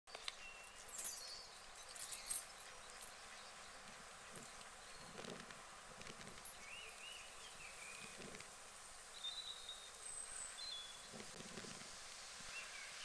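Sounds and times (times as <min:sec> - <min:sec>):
birds chirping: 0:00.1 - 0:11.8
steady hiss: 0:00.2 - 0:13.0.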